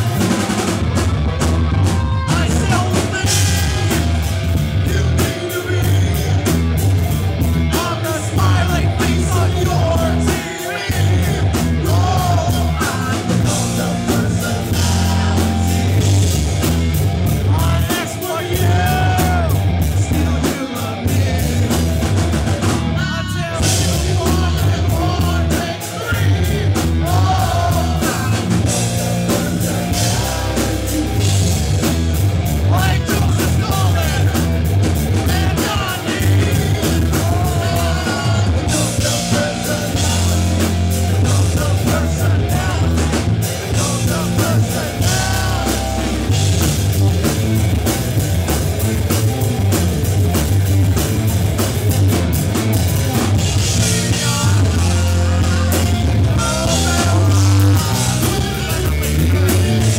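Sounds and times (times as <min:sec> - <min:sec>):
bass guitar: 0:00.0 - 0:59.9
drum kit: 0:00.0 - 0:59.9
electric guitar: 0:00.0 - 0:59.9
man singing: 0:01.9 - 0:06.8, 0:07.6 - 0:16.2, 0:17.4 - 0:31.9, 0:32.6 - 0:46.9, 0:53.2 - 0:59.9.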